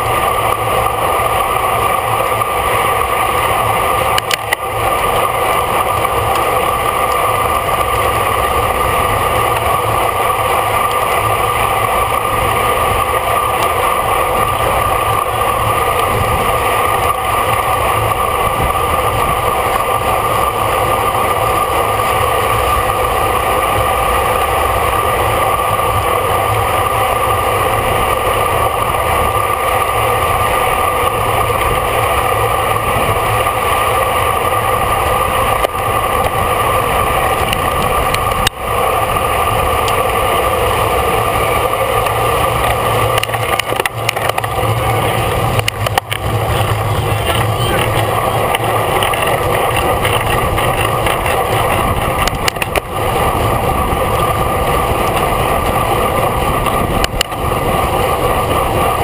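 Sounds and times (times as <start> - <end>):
bicycle road rumble: 0.0 - 59.0
wind rush on microphone: 0.0 - 59.0.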